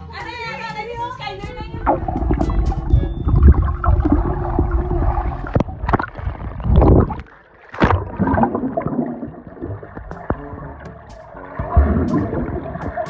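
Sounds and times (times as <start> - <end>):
pool water sloshing and bubbling: 1.2 - 13.0.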